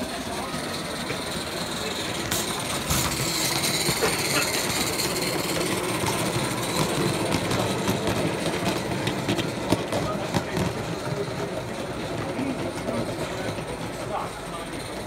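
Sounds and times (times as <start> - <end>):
model train rattling on rails: 0.0 - 15.0.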